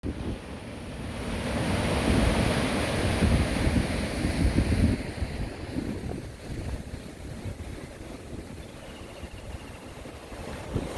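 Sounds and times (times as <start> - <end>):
sea waves washing in: 0.0 - 10.9
wind buffeting microphone: 1.1 - 10.9.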